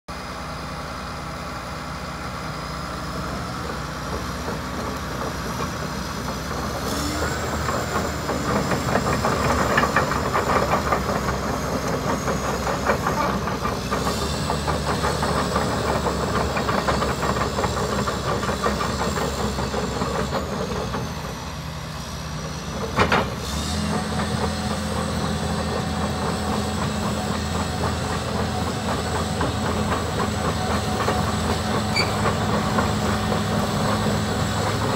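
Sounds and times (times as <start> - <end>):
diesel engine running: 0.1 - 34.9
high engine whine: 0.1 - 34.9
steel tracks clattering: 3.6 - 21.7, 22.4 - 34.9.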